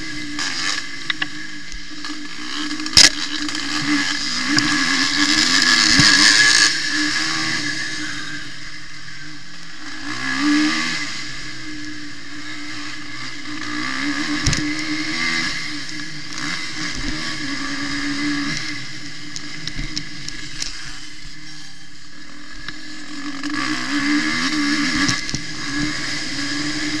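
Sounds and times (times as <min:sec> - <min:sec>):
motocross engine revving: 0:00.0 - 0:27.0.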